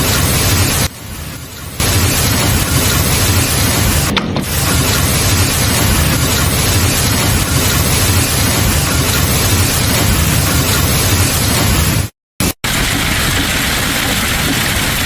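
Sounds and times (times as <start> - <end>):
heavy rain or hail falling: 0.0 - 15.0.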